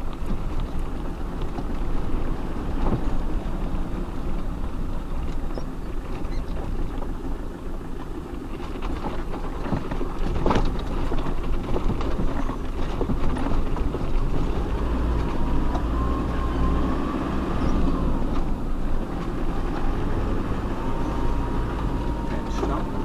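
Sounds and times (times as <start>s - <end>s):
engine and drivetrain rumble: 0.0s - 23.0s.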